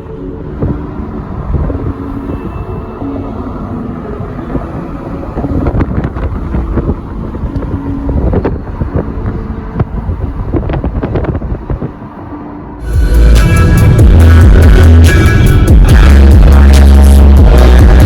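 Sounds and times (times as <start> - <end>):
vehicle rumbling on snowy road: 0.0 - 18.0.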